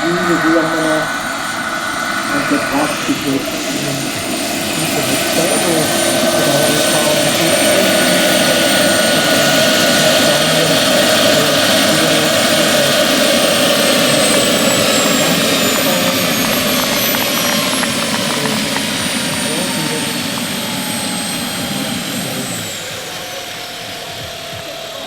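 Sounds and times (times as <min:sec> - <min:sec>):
high turbine whistle: 0:00.0 - 0:25.0
model helicopter rotor and engine: 0:00.0 - 0:25.0.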